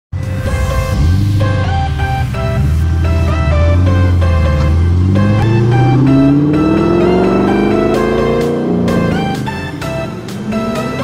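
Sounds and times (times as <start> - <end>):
steady low bass: 0.2 - 11.0
sliding melody notes: 0.6 - 11.0.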